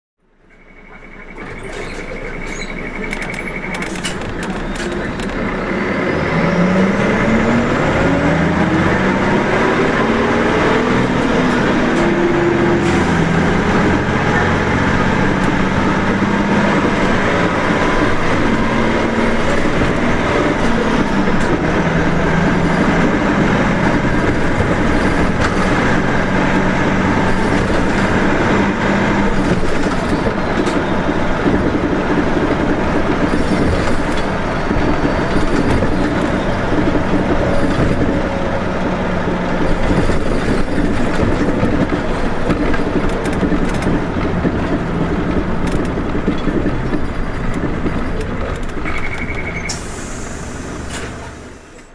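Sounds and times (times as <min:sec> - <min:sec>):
bus diesel engine revving: 0:01.3 - 0:51.9.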